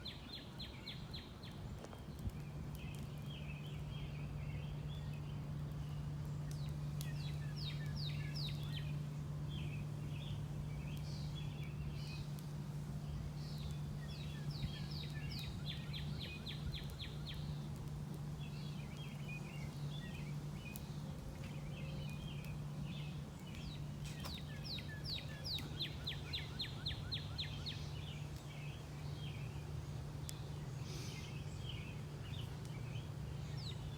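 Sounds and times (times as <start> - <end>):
birds singing: 0.0 - 33.9
steady low hum: 0.0 - 33.9.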